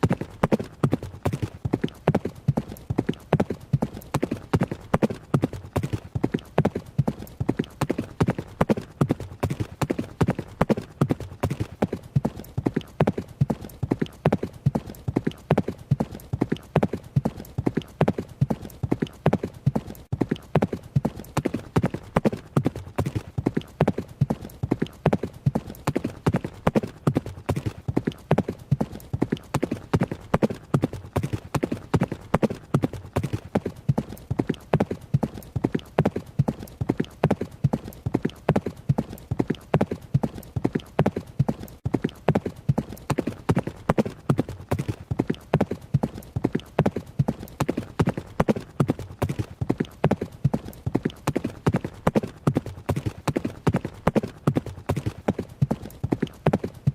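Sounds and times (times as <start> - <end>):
horse hoofbeats running: 0.0 - 56.9.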